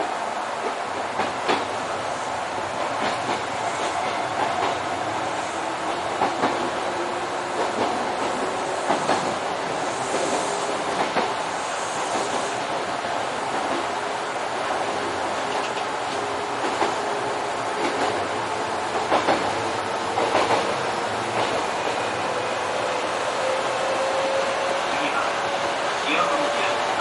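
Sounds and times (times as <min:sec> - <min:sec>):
electric train rolling: 0:00.0 - 0:27.0.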